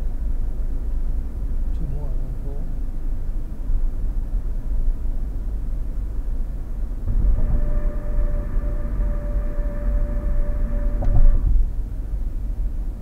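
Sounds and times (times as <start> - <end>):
car road and tyre noise: 0.0 - 13.0
steady humming whine: 0.0 - 13.0.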